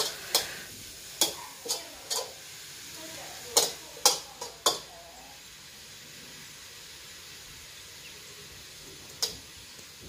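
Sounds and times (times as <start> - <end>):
mushrooms sizzling in a wok: 0.0 - 10.0.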